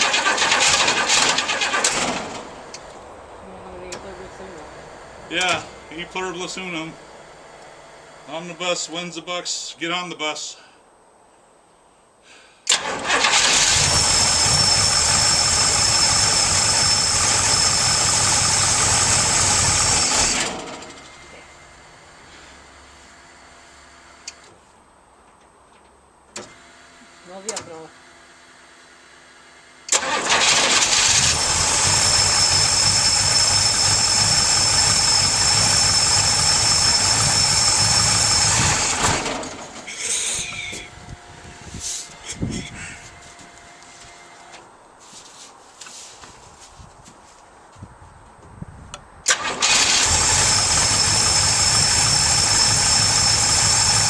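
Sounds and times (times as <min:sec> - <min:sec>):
car engine starting and running: 0:00.0 - 0:10.2, 0:12.7 - 0:24.6, 0:25.8 - 0:45.0, 0:48.9 - 0:54.0.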